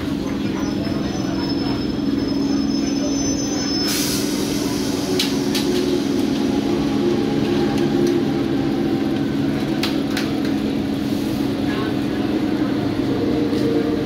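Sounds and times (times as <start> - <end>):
electric train humming: 0.0 - 14.0.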